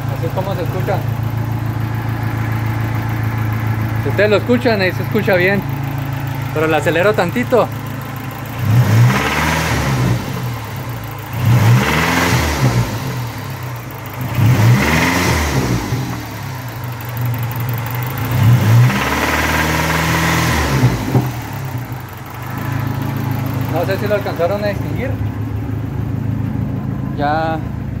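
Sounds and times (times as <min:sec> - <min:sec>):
car engine idling and revving: 0:00.0 - 0:28.0
internal engine knocking noise: 0:00.0 - 0:28.0.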